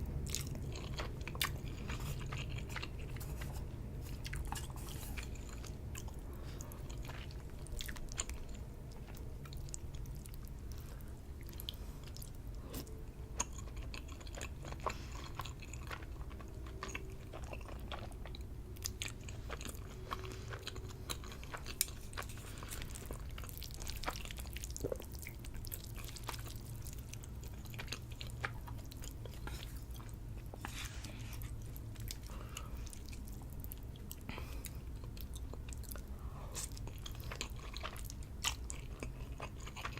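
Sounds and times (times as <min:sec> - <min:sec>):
person chewing noodles: 0:00.0 - 0:39.9
steady low hum: 0:00.0 - 0:39.9.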